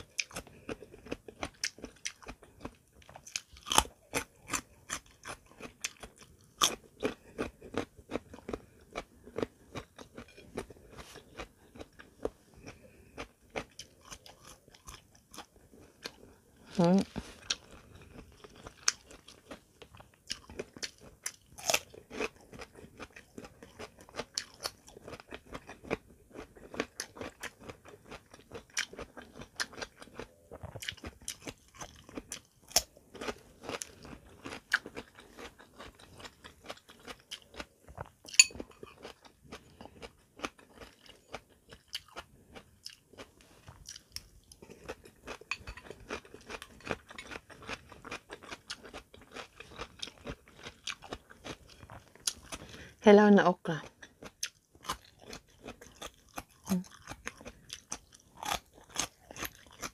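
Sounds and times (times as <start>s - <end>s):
person crunching and chewing vegetables: 0.0s - 53.0s, 53.8s - 59.9s.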